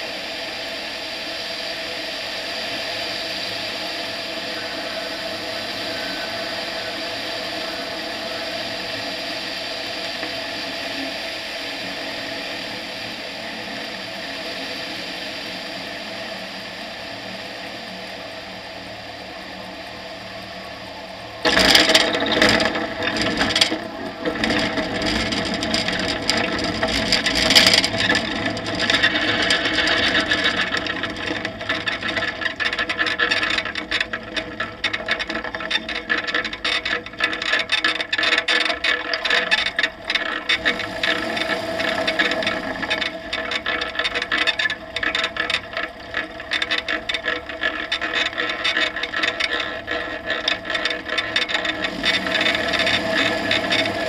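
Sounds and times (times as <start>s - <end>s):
aircraft engine and propeller: 0.0s - 54.0s
wheels rattling over grass: 2.6s - 54.0s.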